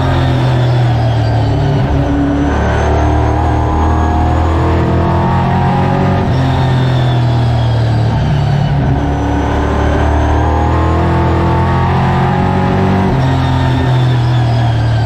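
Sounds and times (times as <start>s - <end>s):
race car engine running hard: 0.0s - 15.0s.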